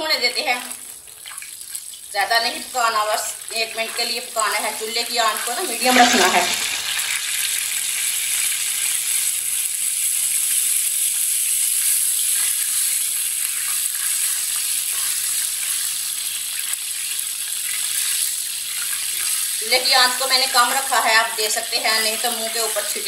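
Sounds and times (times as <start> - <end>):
spices sizzling in hot oil: 0.0 - 23.0.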